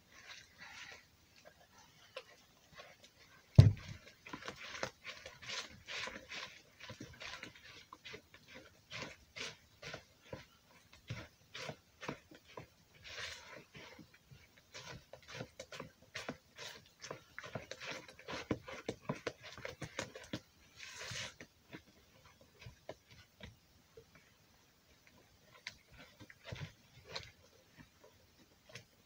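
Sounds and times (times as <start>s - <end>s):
batter stirred in plastic bowl: 0.0s - 29.0s.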